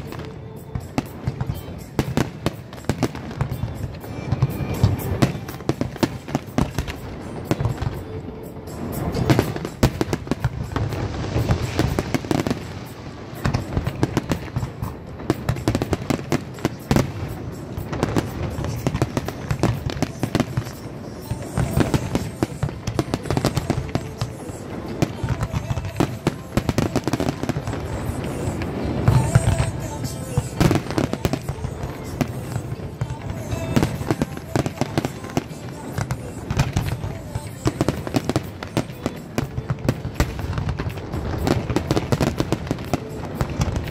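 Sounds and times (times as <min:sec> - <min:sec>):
fireworks bursting and crackling: 0:00.0 - 0:43.9
music playing: 0:00.0 - 0:43.9.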